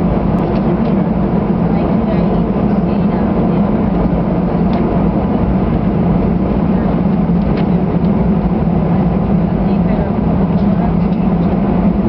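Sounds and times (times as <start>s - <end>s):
jet engine drone: 0.0s - 12.0s
low rumble: 0.0s - 12.0s.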